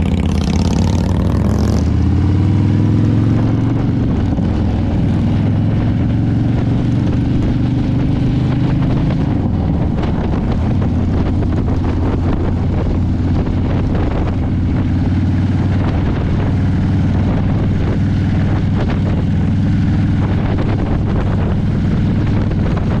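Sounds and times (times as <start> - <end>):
motorcycle engine cruising: 0.0 - 23.0
wind on microphone: 0.0 - 23.0.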